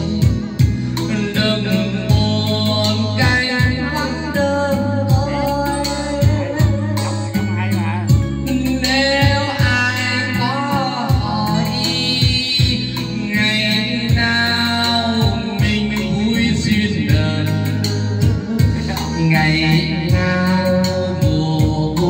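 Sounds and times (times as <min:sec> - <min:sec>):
backing track with bass beat: 0:00.0 - 0:22.0
man singing karaoke into microphone: 0:00.0 - 0:22.0.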